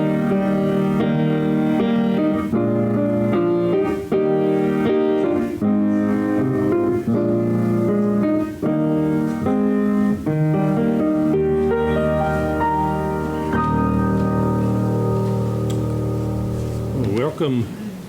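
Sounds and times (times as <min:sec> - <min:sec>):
slow keyboard chords: 0:00.0 - 0:17.6.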